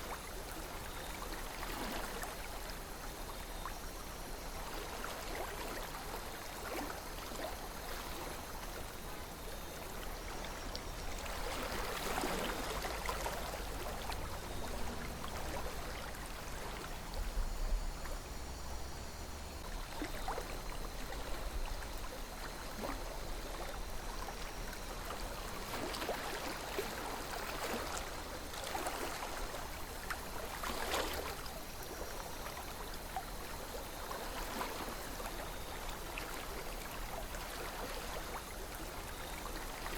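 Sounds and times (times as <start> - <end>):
river flowing: 3.8 - 39.9.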